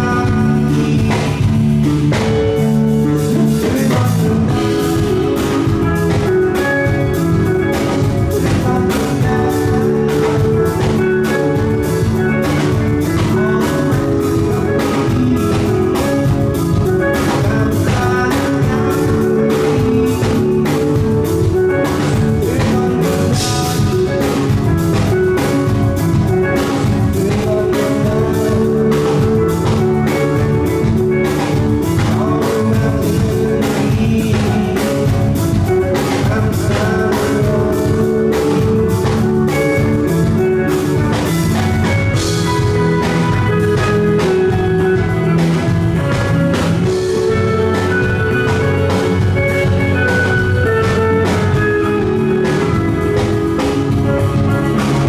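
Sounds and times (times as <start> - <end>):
drum kit: 0.0 - 55.0
guitar: 0.0 - 55.0
rock band playing live: 0.0 - 55.0.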